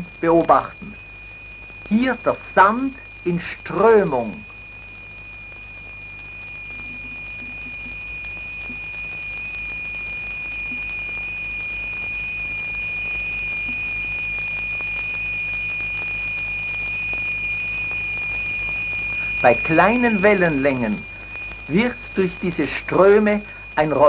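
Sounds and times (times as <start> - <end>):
faint low hum: 0.0 - 24.0
high-pitched sine tone: 0.0 - 24.0.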